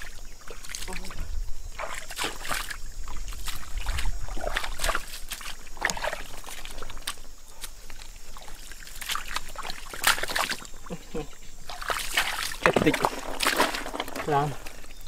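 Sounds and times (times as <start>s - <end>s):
legs wading through mud: 0.0s - 15.0s.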